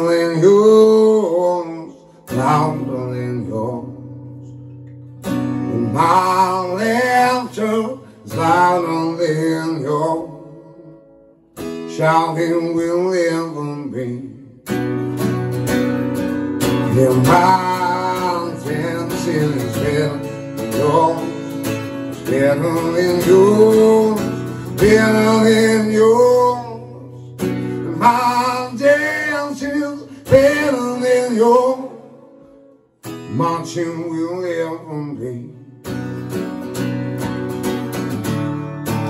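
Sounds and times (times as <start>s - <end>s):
man singing: 0.0s - 4.6s, 5.5s - 11.0s, 11.6s - 14.8s, 16.6s - 35.7s
acoustic guitar strumming: 0.0s - 39.0s.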